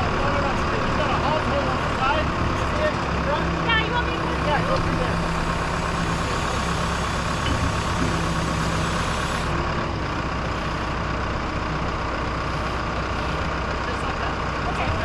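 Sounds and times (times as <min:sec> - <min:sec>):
engine idling with low hum: 0:00.0 - 0:15.0.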